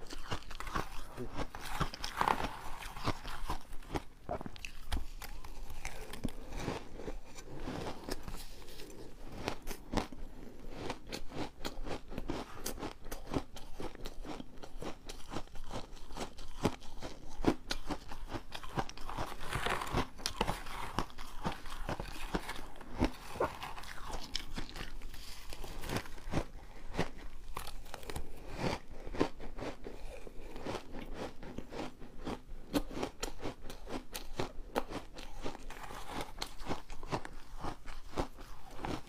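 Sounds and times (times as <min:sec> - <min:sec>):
person chewing ice: 0:00.0 - 0:39.0.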